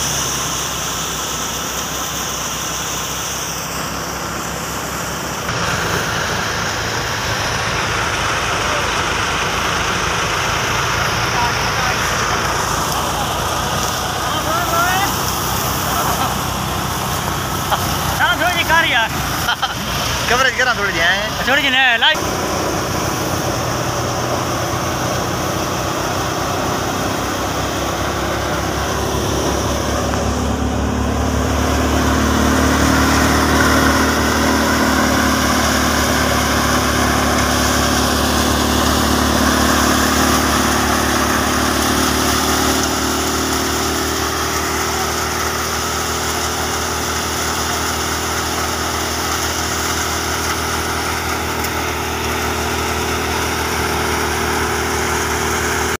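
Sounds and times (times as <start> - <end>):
thresher whirring: 0.0 - 56.0
tractor engine drone: 0.0 - 56.0.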